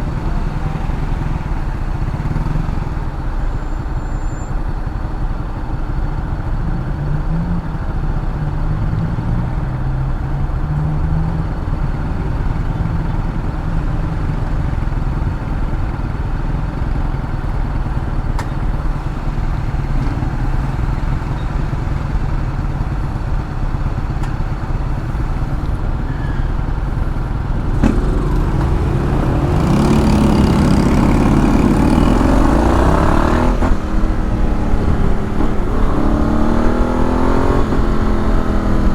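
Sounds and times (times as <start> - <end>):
scooter engine running: 0.0 - 7.0, 11.4 - 38.9
road noise: 0.0 - 38.9.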